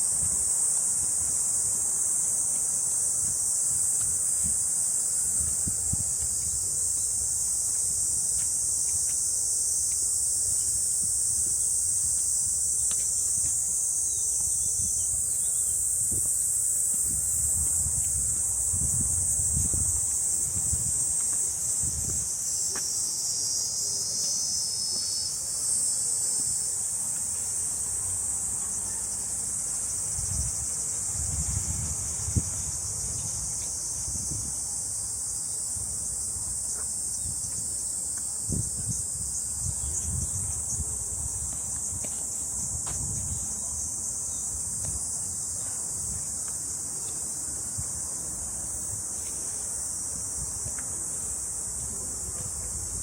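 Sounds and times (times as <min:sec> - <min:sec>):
cicadas chorus: 0:00.0 - 0:53.0.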